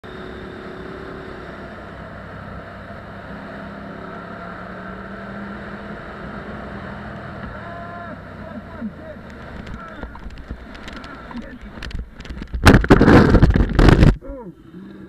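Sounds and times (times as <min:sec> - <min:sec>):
motorcycle engine running: 0:00.0 - 0:14.2
road and wind rush: 0:00.0 - 0:15.0.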